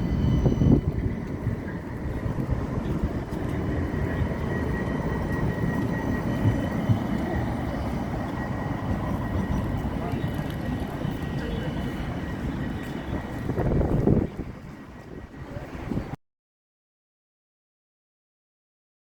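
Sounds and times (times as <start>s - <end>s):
large vehicle low rumble: 0.0s - 16.2s
thin high whine: 0.0s - 16.2s.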